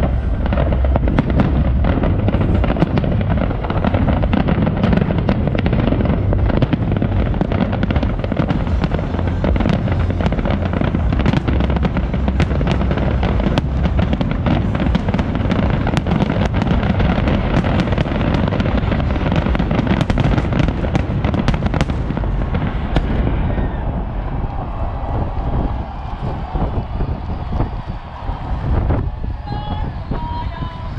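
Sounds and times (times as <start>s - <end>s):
fireworks booming: 0.0s - 30.6s
fireworks crackling: 0.0s - 30.9s.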